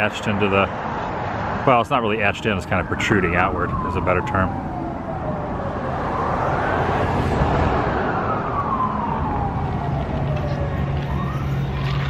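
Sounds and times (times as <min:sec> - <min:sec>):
emergency siren wailing: 0:01.6 - 0:12.0.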